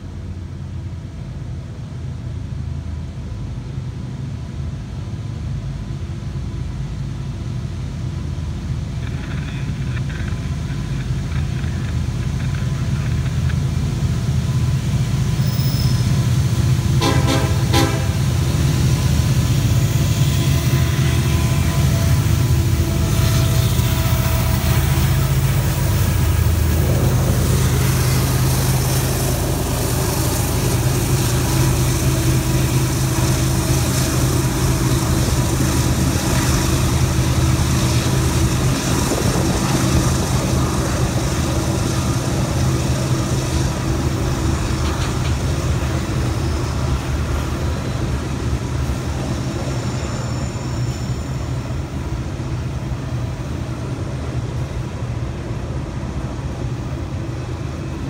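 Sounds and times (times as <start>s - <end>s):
locomotive engines droning: 0.0s - 58.0s
train cars rolling on rails: 0.0s - 58.0s.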